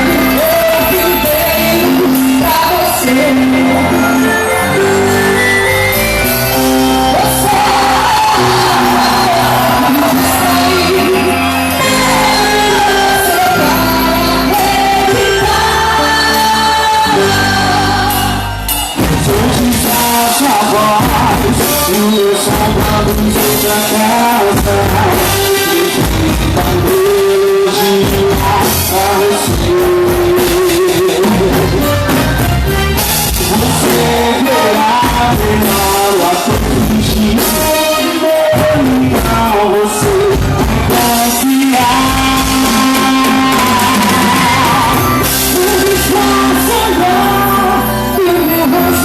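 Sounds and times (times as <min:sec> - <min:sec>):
loud dance music with singing: 0:00.0 - 0:32.4, 0:33.2 - 0:49.0.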